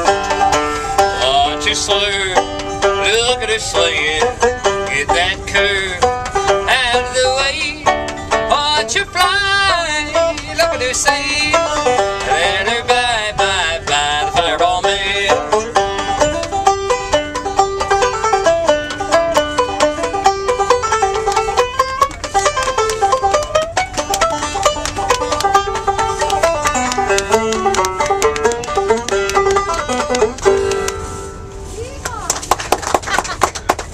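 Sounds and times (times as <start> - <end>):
banjo picking: 0.0 - 31.9.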